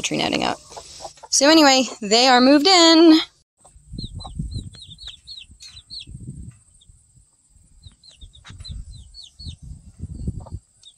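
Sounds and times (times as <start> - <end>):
chicks peeping: 0.2 - 2.0, 3.6 - 10.9.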